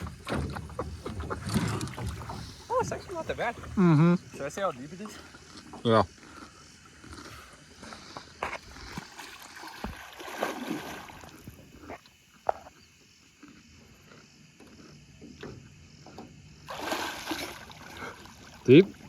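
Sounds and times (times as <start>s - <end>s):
water splashing and lapping: 0.0s - 19.0s.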